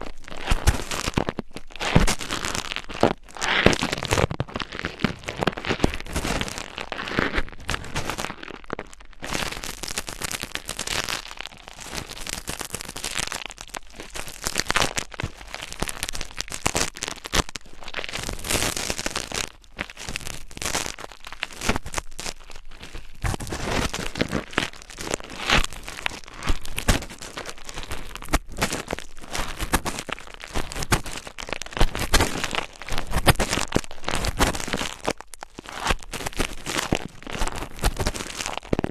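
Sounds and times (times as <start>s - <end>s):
close crackling and scratching: 0.0s - 38.9s.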